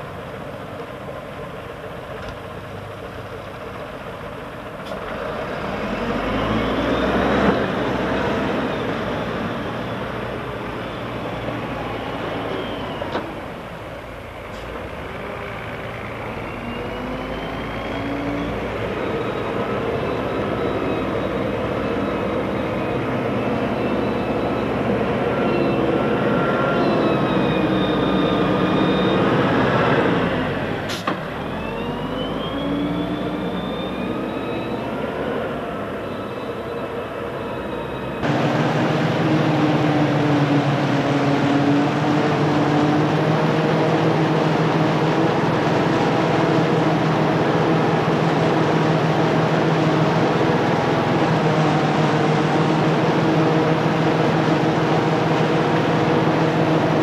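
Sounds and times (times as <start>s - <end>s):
wheel loader diesel engine: 0.0s - 57.0s.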